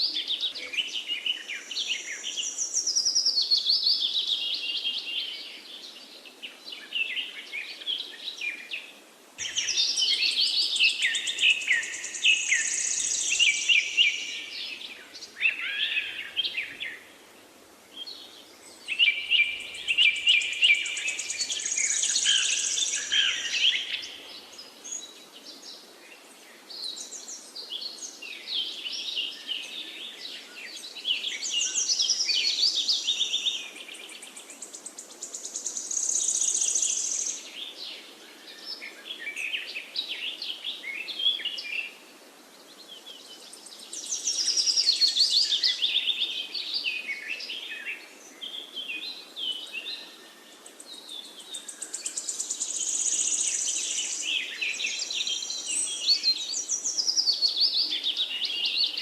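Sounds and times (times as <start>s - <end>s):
faint background hiss: 0.0s - 59.0s
songbirds chirping and trilling: 0.0s - 59.0s.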